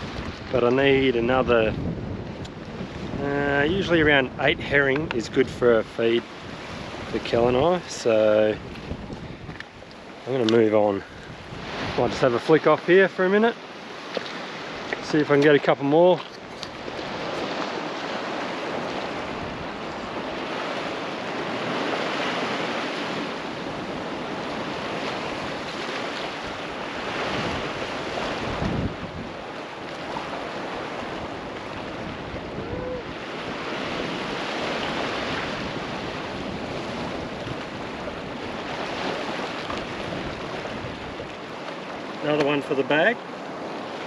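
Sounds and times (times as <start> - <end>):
wind buffeting microphone: 0.0 - 12.8, 13.4 - 42.3
sea waves breaking on rock: 0.0 - 44.0.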